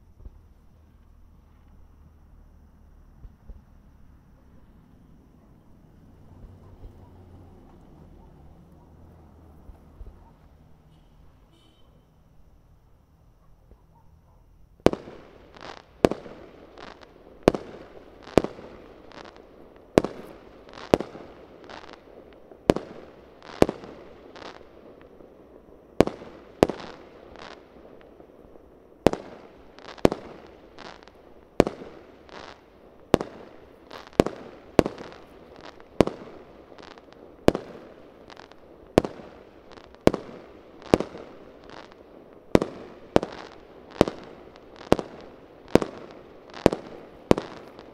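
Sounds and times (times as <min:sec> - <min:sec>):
fireworks bangs echoing: 0:03.2 - 0:12.0, 0:14.8 - 0:47.9.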